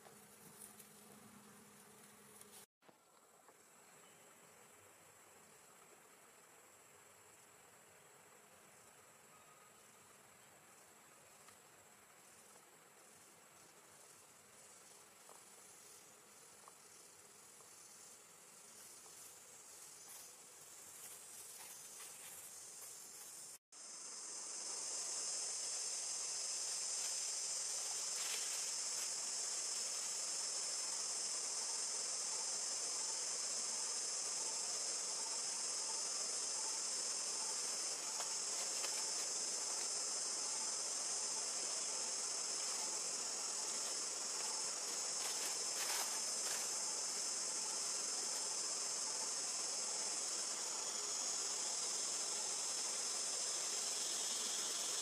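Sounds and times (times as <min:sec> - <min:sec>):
high-pitched insect chorus: 0:03.5 - 0:55.0.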